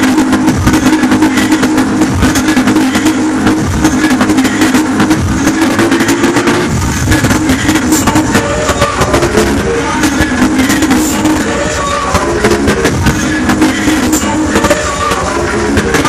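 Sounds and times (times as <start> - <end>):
electronic dance music: 0.0 - 16.0.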